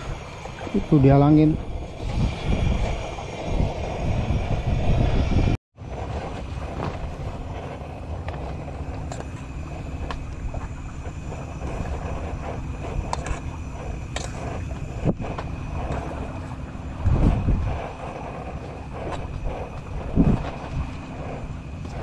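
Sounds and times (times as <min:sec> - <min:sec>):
steady wind noise: 0:00.0 - 0:22.0
wind buffeting microphone: 0:00.0 - 0:22.0.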